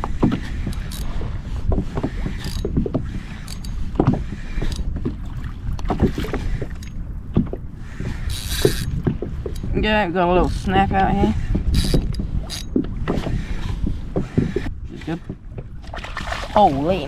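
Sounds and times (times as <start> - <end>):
water slapping against kayak hull: 0.0 - 17.0
wind buffeting microphone: 0.0 - 17.0.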